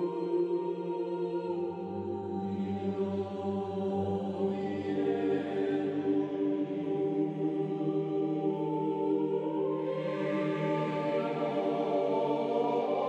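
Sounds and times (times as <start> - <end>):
slow sustained chords music: 0.0 - 13.0.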